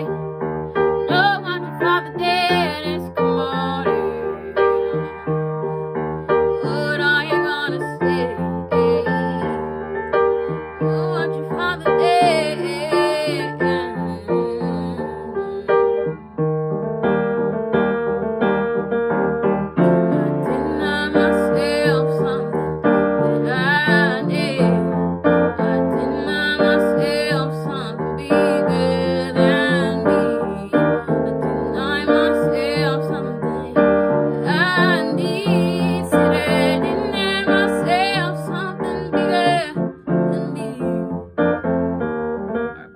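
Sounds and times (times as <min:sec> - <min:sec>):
woman singing slow song: 0:00.0 - 0:00.2, 0:01.0 - 0:05.1, 0:06.3 - 0:09.7, 0:10.5 - 0:16.0, 0:19.9 - 0:41.3.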